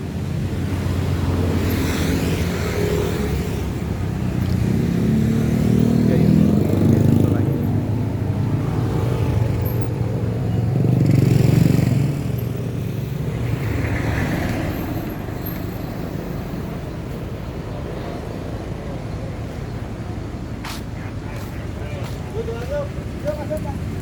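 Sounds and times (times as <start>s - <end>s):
traffic noise: 0.0s - 24.0s
vehicle passing by: 0.3s - 24.0s.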